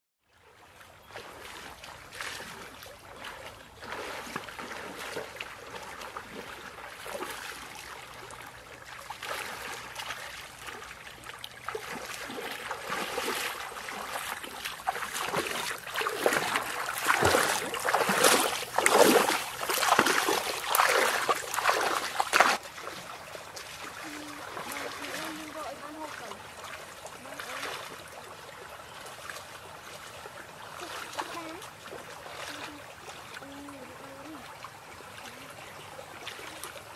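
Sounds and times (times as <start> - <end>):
feet wading through water: 0.3 - 36.9.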